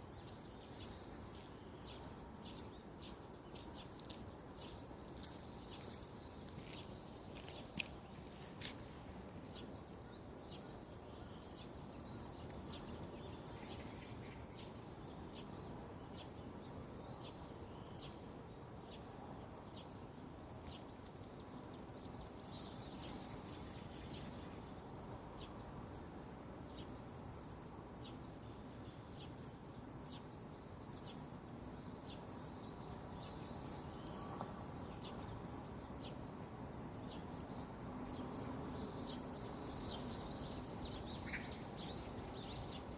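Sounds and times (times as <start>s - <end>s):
bird chirping: 0.0s - 25.7s, 28.0s - 36.3s, 37.0s - 42.9s
outdoor background noise: 0.0s - 42.9s.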